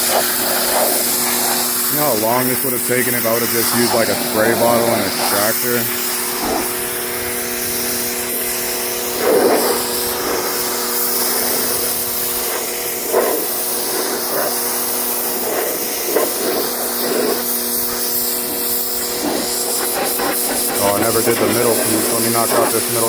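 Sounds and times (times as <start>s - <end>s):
pressure washer motor hum: 0.0s - 23.0s
water spray hissing: 0.0s - 23.0s.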